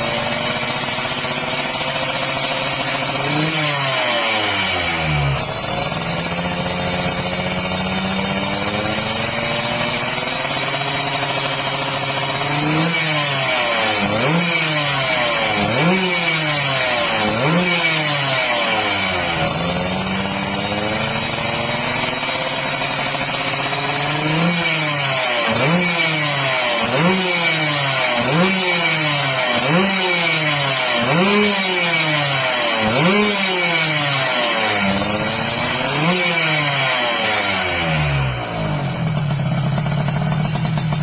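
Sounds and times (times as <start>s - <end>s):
two-stroke motorcycle engine revving: 0.0s - 41.0s.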